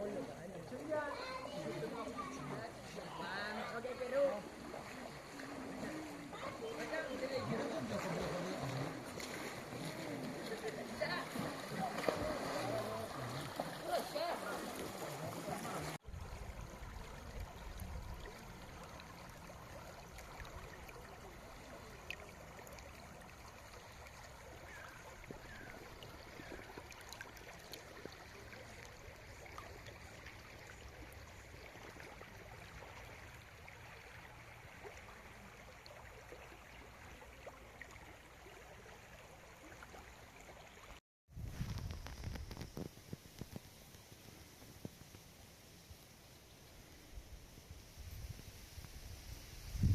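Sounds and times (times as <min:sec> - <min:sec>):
faint flowing stream: 0:00.0 - 0:49.9.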